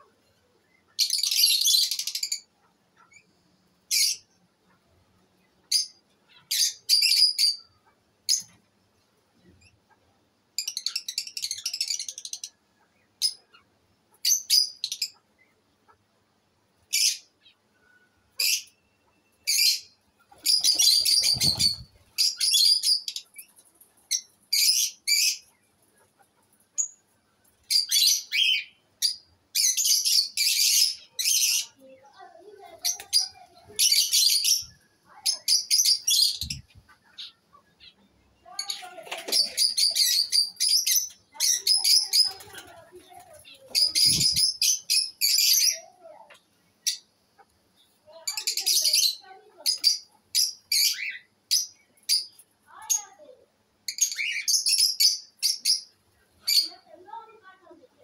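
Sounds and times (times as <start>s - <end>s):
lovebirds chirping: 0.0s - 53.3s, 53.9s - 57.9s.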